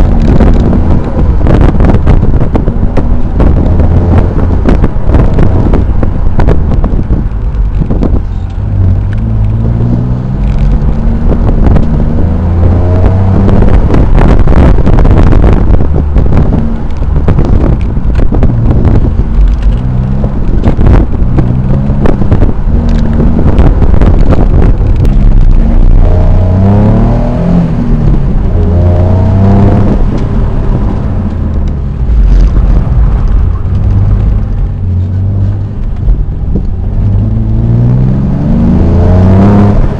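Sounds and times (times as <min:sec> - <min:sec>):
car engine revving: 0:00.0 - 0:39.9
wind buffeting microphone: 0:00.0 - 0:39.9.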